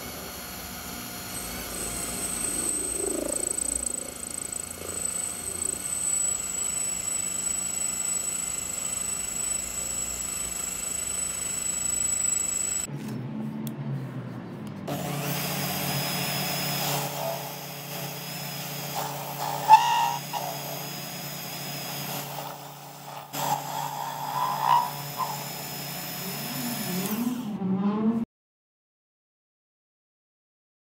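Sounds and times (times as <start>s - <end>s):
lathe motor whining: 0.0s - 12.9s, 14.9s - 28.1s.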